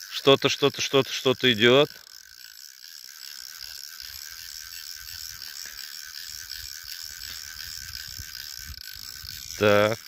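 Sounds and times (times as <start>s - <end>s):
fishing reel cranking: 0.0s - 10.0s.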